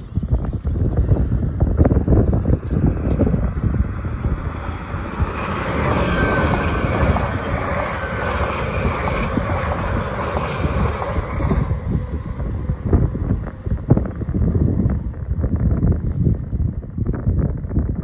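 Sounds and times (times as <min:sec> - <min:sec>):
express train passing: 0:00.0 - 0:17.7
wind buffeting microphone: 0:00.0 - 0:18.0.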